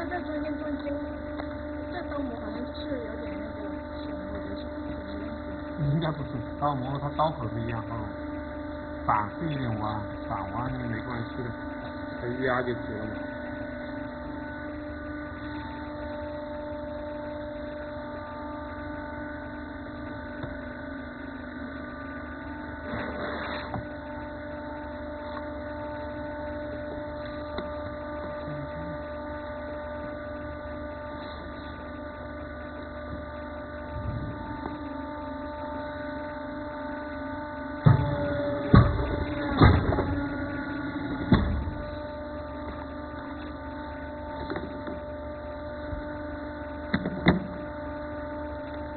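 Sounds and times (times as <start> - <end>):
cutting press electric hum: 0.0 - 48.9.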